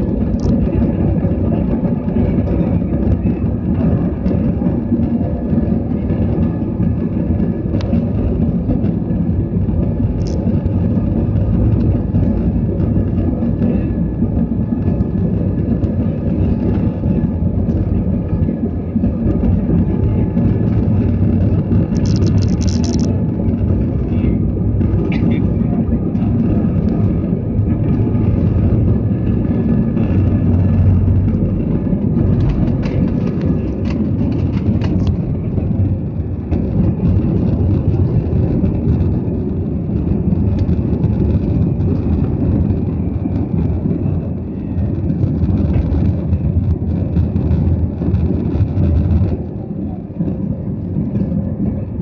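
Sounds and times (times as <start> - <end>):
jet engines rumbling in cabin: 0.0 - 52.0.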